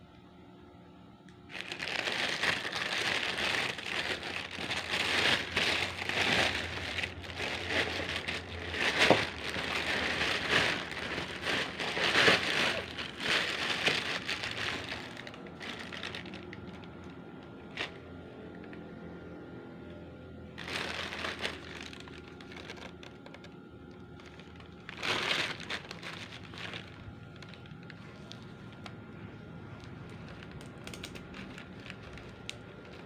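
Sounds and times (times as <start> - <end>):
plastic packaging crinkling: 1.4 - 18.0, 20.5 - 33.0.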